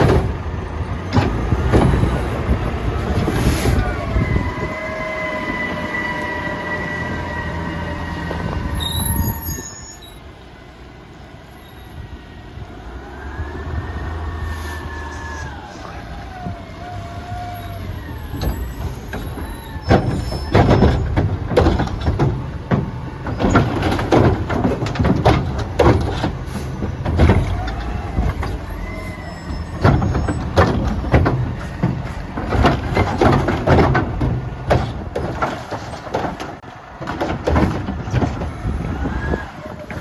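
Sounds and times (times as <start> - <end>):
garbage truck engine: 0.0 - 40.0
trash carts banging and clattering: 0.0 - 40.0.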